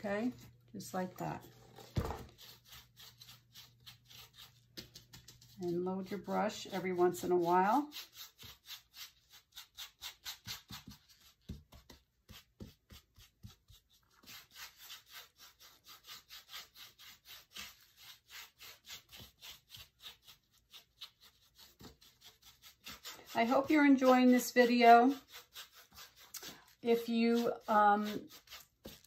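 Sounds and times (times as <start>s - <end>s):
paintbrush bristles scratching: 0.0s - 29.0s.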